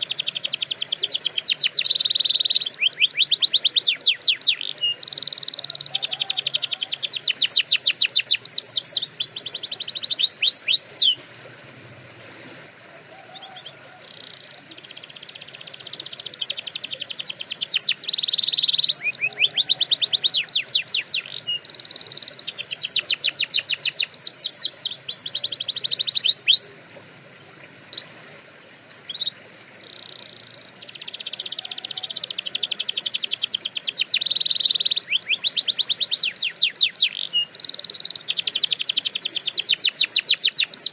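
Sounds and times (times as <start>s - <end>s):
canary singing trills: 0.0s - 12.0s, 13.2s - 26.8s, 28.9s - 40.9s.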